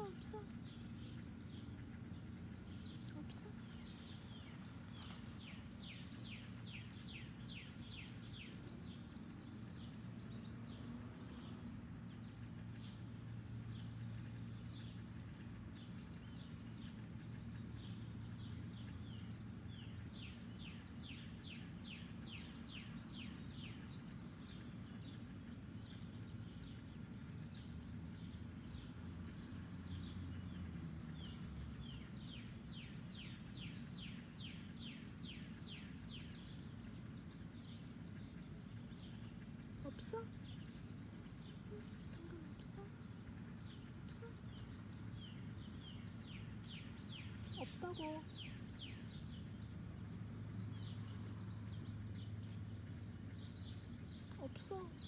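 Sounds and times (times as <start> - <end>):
low outdoor hum: 0.0 - 55.0
songbird chirping: 0.0 - 55.0.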